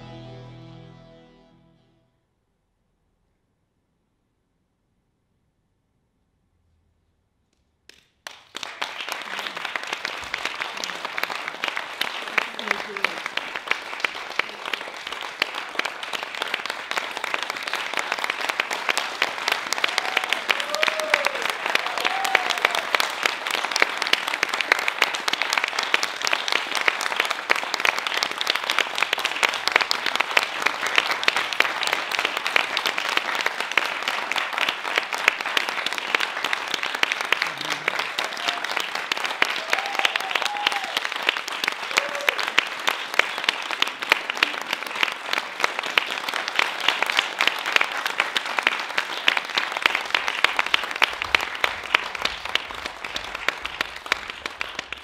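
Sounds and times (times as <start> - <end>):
audience applauding: 7.9 - 55.0.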